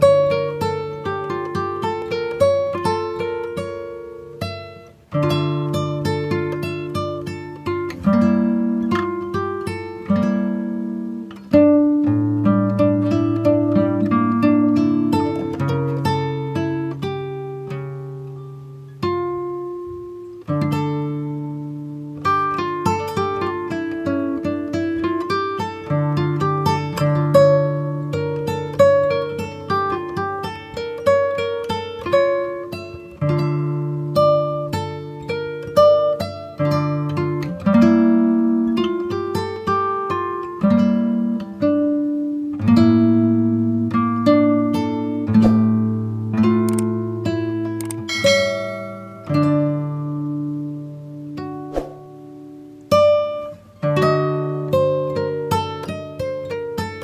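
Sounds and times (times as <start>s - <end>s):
acoustic guitar chords: 0.0s - 57.0s
plucked-string music: 0.0s - 57.0s.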